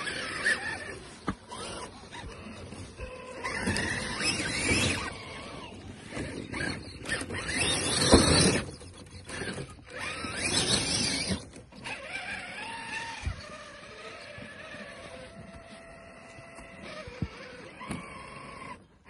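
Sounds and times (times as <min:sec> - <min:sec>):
crunching and scrabbling on rocks: 0:00.0 - 0:18.7
electric motor whining: 0:00.0 - 0:19.0.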